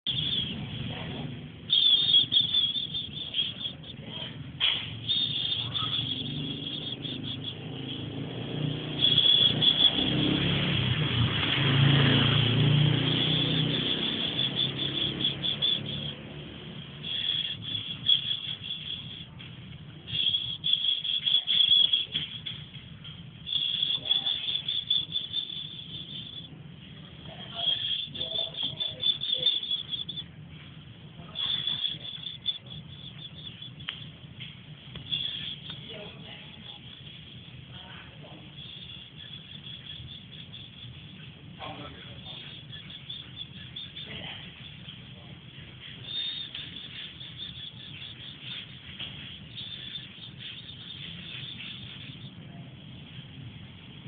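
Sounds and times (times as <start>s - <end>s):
high-pitched chirping: 0.0s - 54.0s
low steady hum: 0.0s - 54.0s
high-pitched insect-like buzz: 0.1s - 0.6s, 1.7s - 19.4s, 20.1s - 22.8s, 23.4s - 26.5s, 27.2s - 30.3s, 31.2s - 34.1s, 34.9s - 45.0s, 45.8s - 52.4s.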